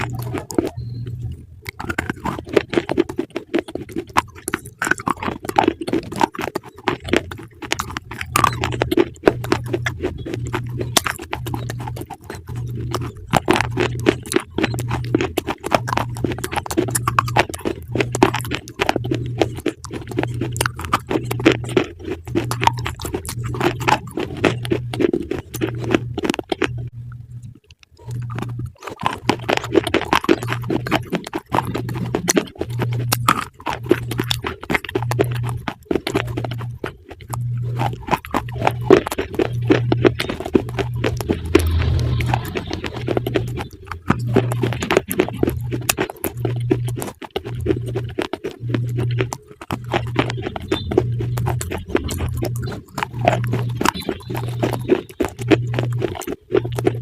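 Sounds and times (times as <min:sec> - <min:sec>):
low pulsing tone: 0:00.0 - 0:02.5, 0:07.0 - 0:31.0, 0:31.6 - 0:57.0
crunchy food being chewed: 0:00.0 - 0:57.0.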